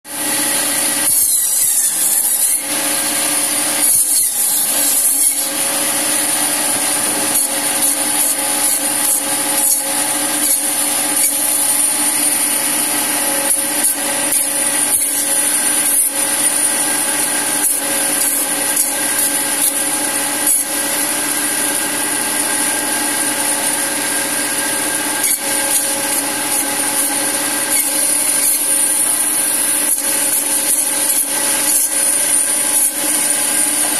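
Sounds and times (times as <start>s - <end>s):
band saw motor hum and whine: 0.1s - 33.9s.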